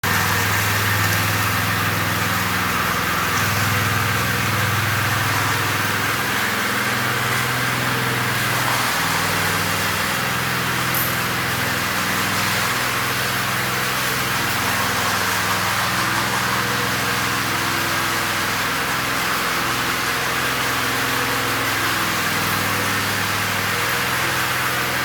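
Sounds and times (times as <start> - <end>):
small petrol engine running: 0.0 - 25.0.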